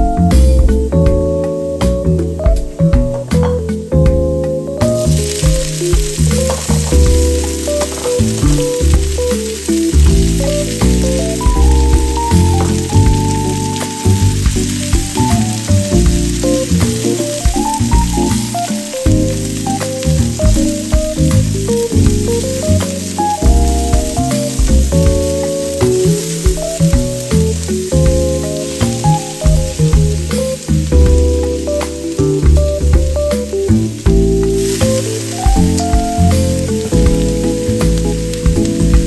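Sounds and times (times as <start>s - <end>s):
background music with melody: 0.0s - 39.0s
vegetables sizzling in hot oil: 4.8s - 39.0s.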